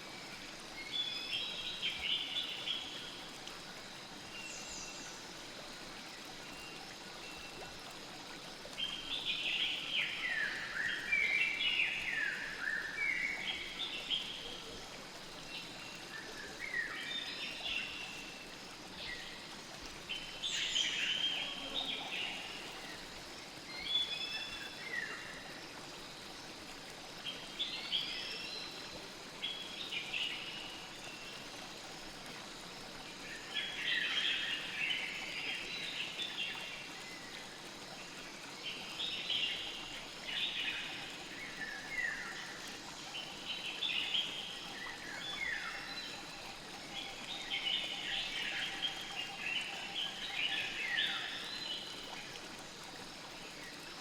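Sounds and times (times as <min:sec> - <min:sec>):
flowing stream: 0:00.0 - 0:54.0.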